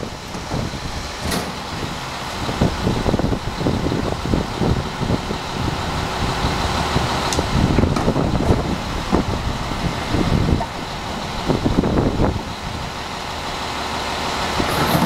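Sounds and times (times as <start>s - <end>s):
garbage truck engine idling: 0.0s - 15.0s
wind buffeting microphone: 0.0s - 15.0s.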